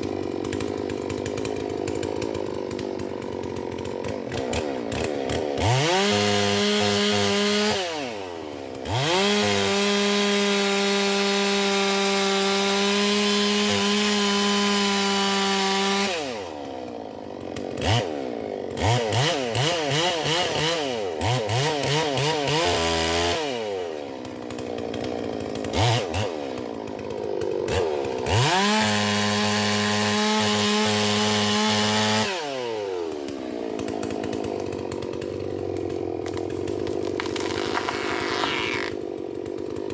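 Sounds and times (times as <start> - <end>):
chainsaw at full throttle: 0.0 - 39.9
chainsaw idling: 0.0 - 39.9.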